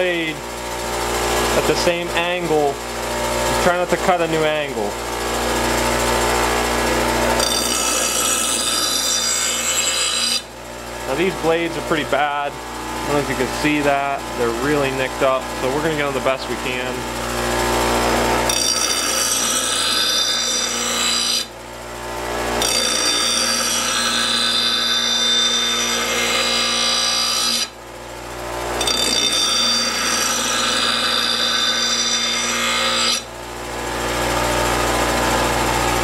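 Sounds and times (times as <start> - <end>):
bench grinder grinding blade: 0.0 - 36.0
grinder motor hum: 0.0 - 36.0.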